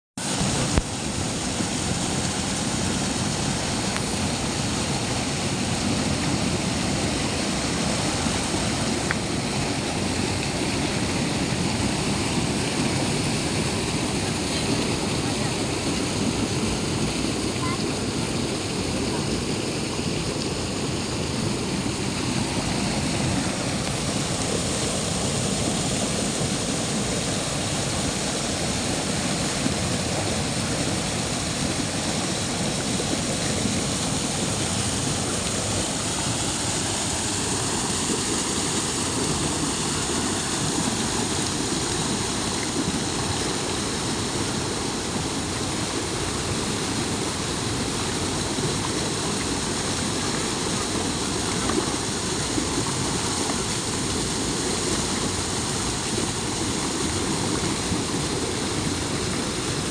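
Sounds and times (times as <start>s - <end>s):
waterfall rushing: 0.2s - 59.9s.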